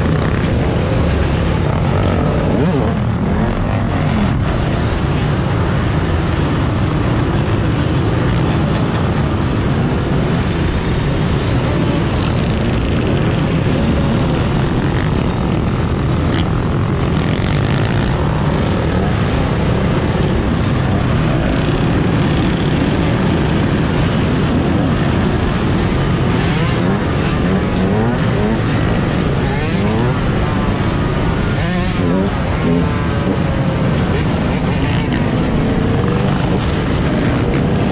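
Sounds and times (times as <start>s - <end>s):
dirt bike engines revving: 0.0s - 37.9s.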